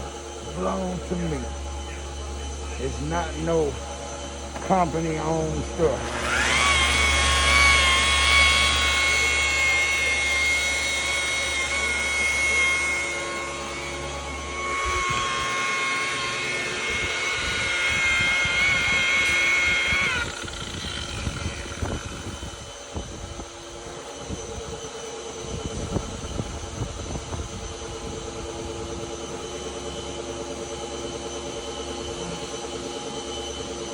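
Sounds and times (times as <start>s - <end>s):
electric polisher whining: 0.0s - 33.9s.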